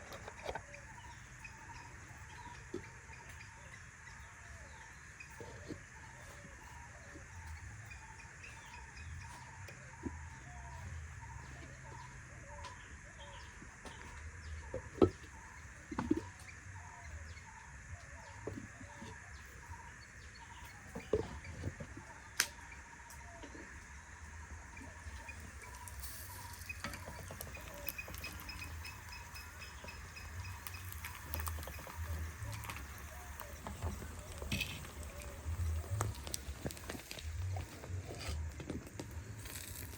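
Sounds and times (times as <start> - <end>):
bird calls: 0.0 - 39.9.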